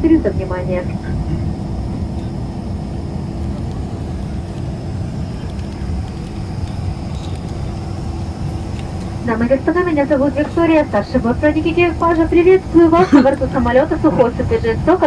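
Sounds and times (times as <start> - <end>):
airliner cabin rumble: 0.0 - 15.0
faint high whine: 0.0 - 15.0.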